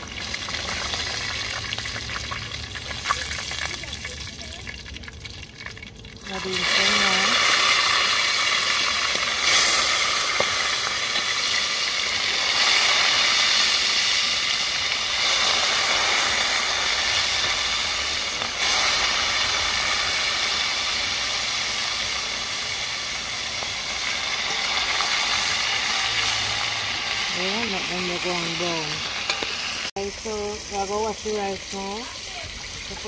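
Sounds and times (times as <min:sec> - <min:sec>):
chicken sizzling in hot oil: 0:00.0 - 0:33.0.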